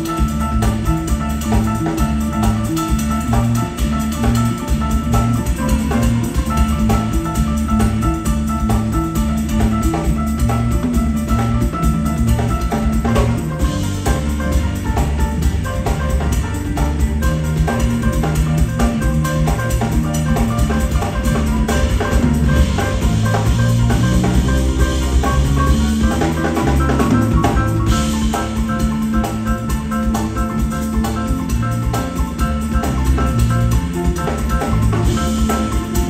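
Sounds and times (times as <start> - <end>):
jazz band playing: 0.0 - 36.0.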